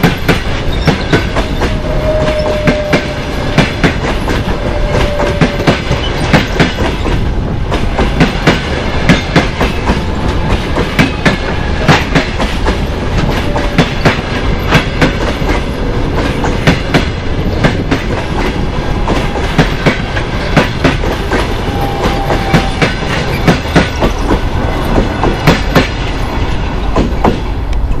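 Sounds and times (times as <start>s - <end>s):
steady train rumble: 0.0s - 28.0s
train wheels clicking over rail joints: 0.0s - 28.0s.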